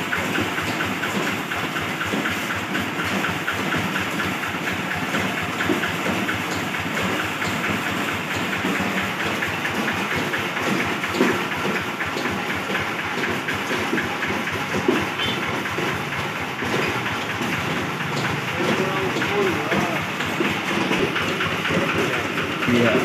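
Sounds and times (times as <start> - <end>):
harvester engine rattling: 0.0 - 23.0.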